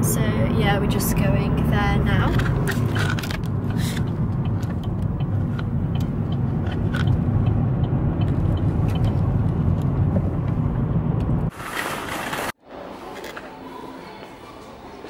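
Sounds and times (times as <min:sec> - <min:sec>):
car engine and tyre rumble: 0:00.0 - 0:12.6.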